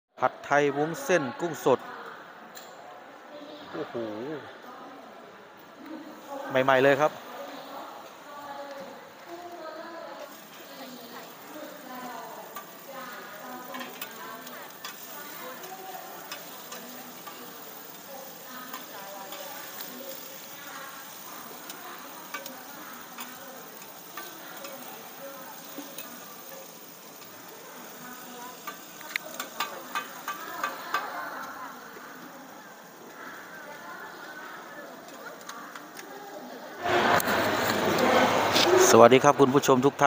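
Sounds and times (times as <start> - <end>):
food sizzling on a griddle: 5.8 - 38.9.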